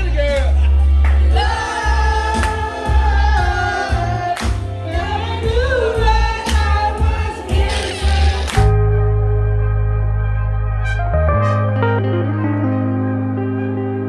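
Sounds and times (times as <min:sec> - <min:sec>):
pulsing bass beat: 0:00.0 - 0:14.0.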